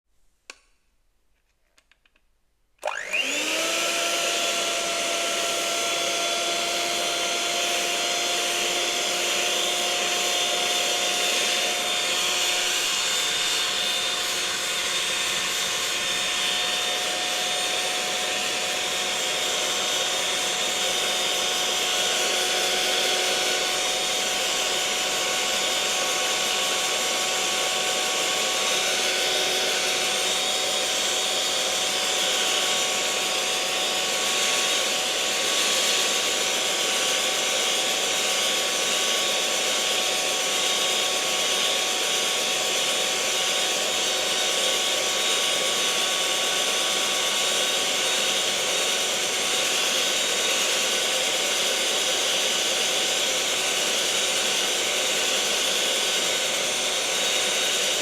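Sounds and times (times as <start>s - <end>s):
electric mixer motor whine: 2.8s - 58.0s.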